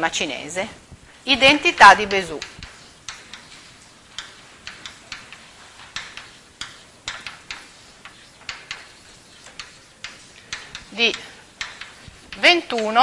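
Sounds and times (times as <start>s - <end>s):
chalk tapping on blackboard: 1.4s - 13.0s.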